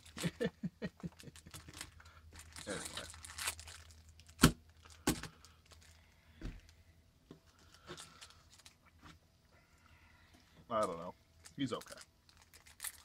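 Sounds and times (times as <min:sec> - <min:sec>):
foil packs crinkling: 0:00.0 - 0:06.8, 0:07.4 - 0:09.0, 0:10.7 - 0:13.0.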